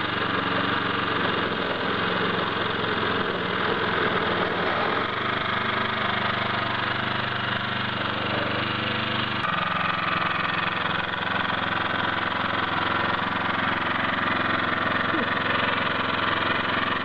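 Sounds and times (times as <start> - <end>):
lawn dethatcher engine running: 0.0 - 17.0.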